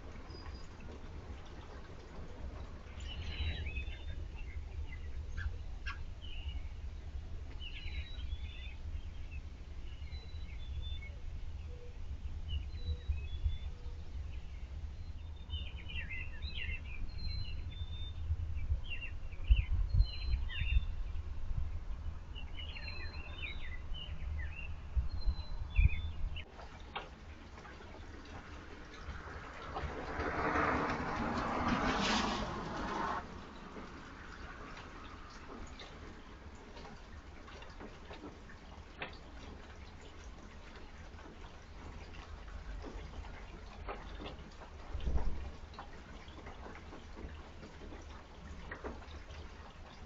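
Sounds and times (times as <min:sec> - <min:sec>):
birds chirping: 0:00.0 - 0:29.9, 0:33.3 - 0:50.0.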